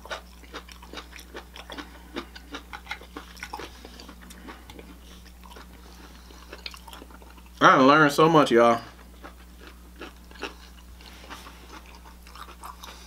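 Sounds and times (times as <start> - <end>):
person chewing crunchy food: 0.0 - 7.6, 8.7 - 13.0.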